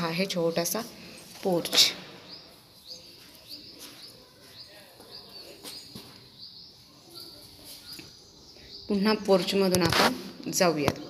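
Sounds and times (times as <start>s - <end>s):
faint bird chirping: 0.0s - 9.7s.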